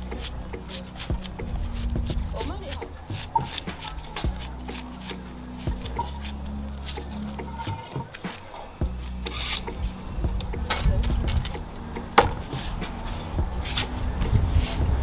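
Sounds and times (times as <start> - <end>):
low steady rumble: 0.0 - 7.8, 8.8 - 15.0
scattered clicks and knocks: 0.0 - 15.0.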